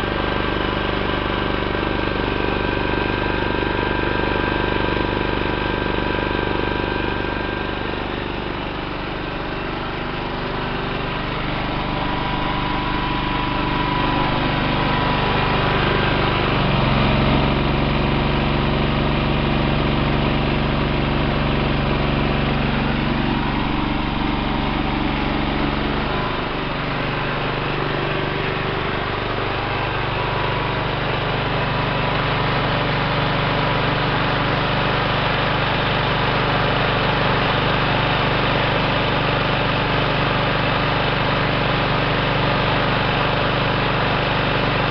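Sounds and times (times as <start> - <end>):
generator running: 0.0 - 44.9.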